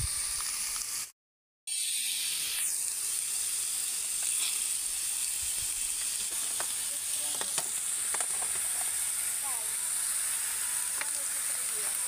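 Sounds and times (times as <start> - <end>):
meat sizzling on a grill plate: 1.7 - 12.0.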